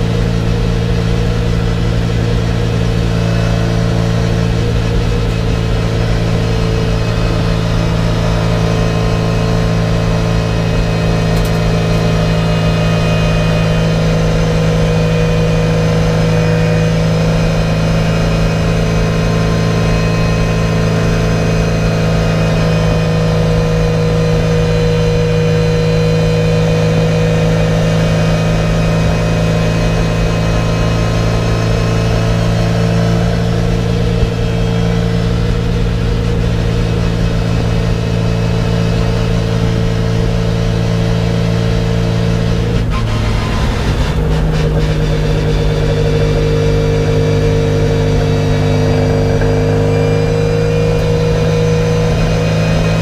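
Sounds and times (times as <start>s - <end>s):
race car engine from cockpit: 0.0s - 53.0s.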